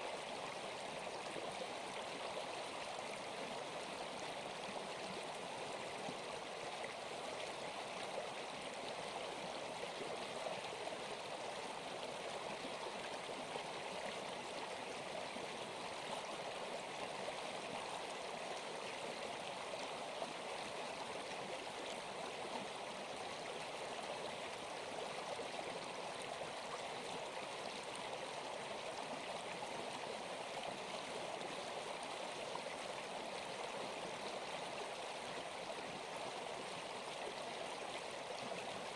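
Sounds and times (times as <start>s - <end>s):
rushing stream water: 0.0s - 38.9s.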